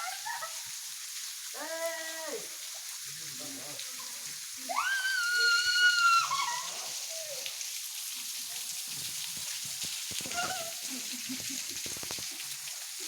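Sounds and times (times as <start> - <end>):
waterfall hiss: 0.0 - 13.0.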